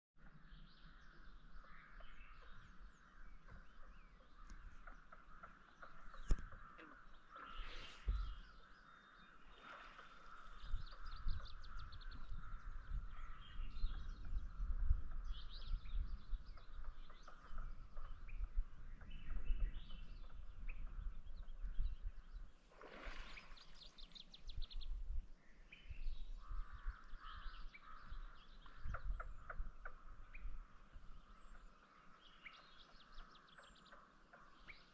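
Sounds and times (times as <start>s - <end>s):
wild birds calling and singing: 0.2s - 34.9s.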